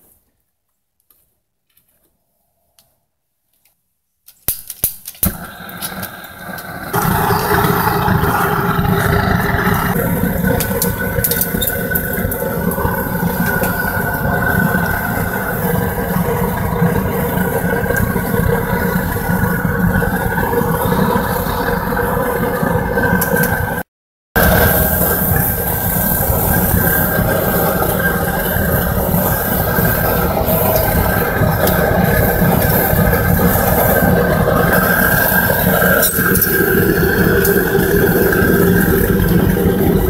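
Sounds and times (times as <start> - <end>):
gas burner popping and sputtering: 4.5 - 40.0
gas burner rushing roar: 5.2 - 40.0.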